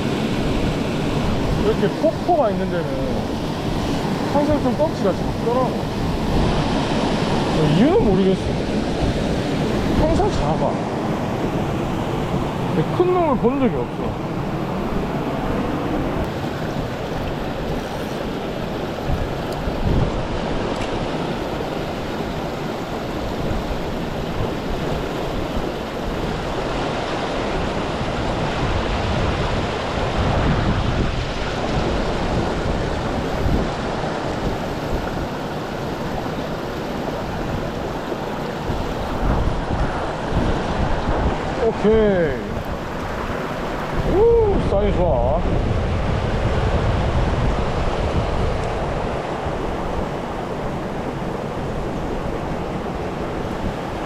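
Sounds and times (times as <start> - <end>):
waterfall and stream rushing: 0.0 - 54.0
wind gusts on microphone: 0.0 - 54.0.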